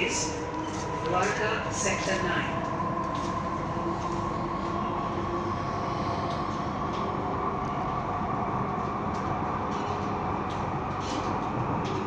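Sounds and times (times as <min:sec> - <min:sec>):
high train whine: 0:00.0 - 0:12.0
train rumble: 0:00.0 - 0:12.0.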